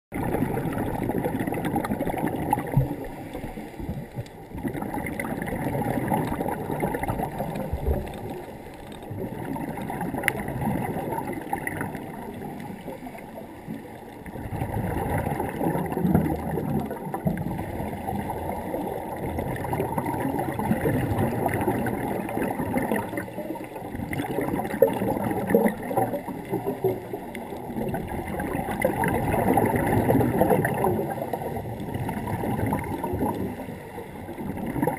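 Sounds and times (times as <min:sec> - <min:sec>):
underwater air bubbling: 0:00.1 - 0:34.9.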